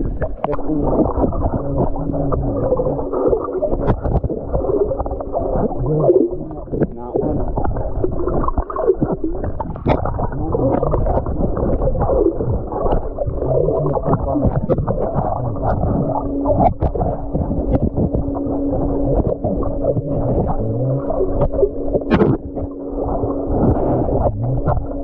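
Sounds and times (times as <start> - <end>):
steady hum: 0.0 - 25.0
water gurgling underwater: 0.0 - 25.0.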